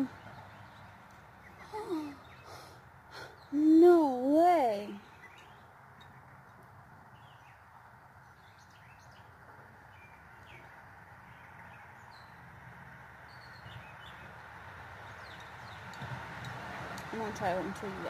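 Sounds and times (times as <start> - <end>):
birds chirping faintly: 0.0 - 16.1
low outdoor background: 0.0 - 18.0.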